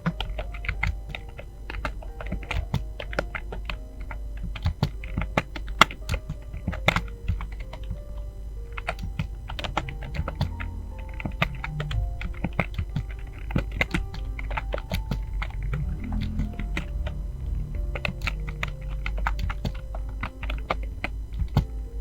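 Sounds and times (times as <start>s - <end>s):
keyboard typing clicks: 0.0s - 22.0s
soft music: 0.0s - 22.0s.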